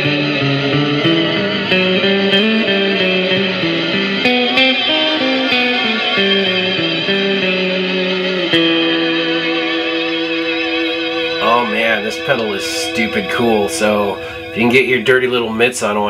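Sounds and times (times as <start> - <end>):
electric guitar with long reverb: 0.0 - 16.0.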